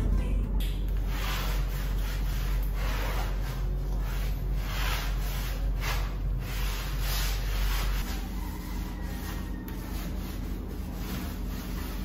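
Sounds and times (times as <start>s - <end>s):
cloth wiping wet tile: 1.1s - 12.0s.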